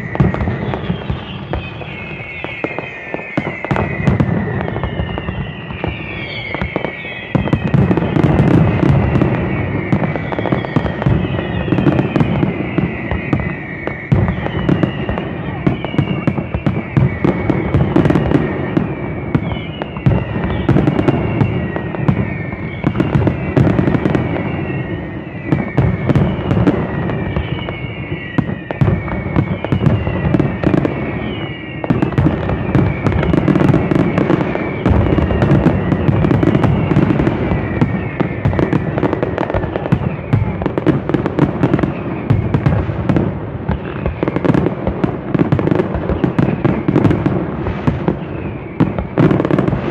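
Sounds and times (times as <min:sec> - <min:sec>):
high whistling glides: 0:00.0 - 0:42.7
fireworks bangs and crackling: 0:00.0 - 0:49.9.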